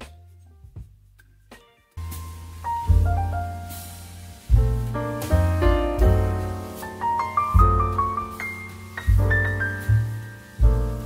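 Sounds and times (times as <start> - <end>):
deep bass notes: 2.0 - 11.0.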